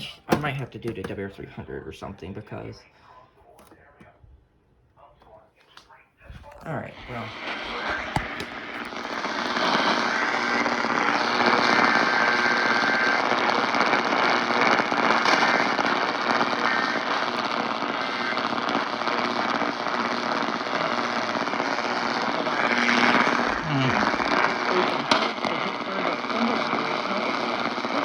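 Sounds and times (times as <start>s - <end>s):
radio static hiss and crackle: 5.0s - 28.0s.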